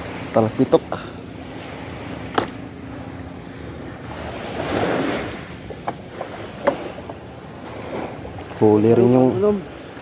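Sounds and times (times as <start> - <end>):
small waves washing onto shore: 0.0 - 10.0.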